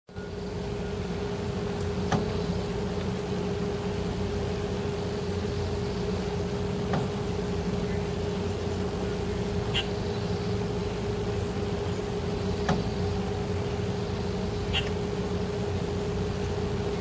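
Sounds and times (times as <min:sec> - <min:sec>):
mechanical hum with pitched drone: 0:00.1 - 0:17.0.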